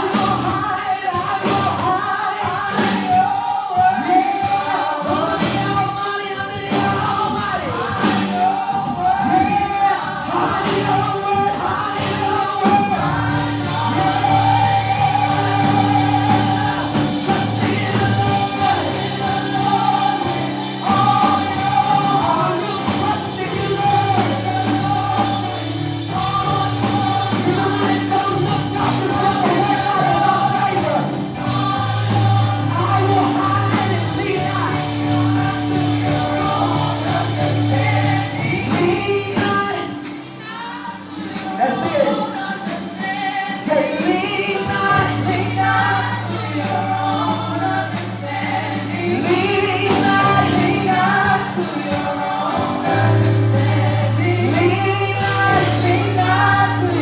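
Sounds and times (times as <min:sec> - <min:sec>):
band playing: 0:00.0 - 0:57.0
choir singing gospel: 0:00.0 - 0:57.0.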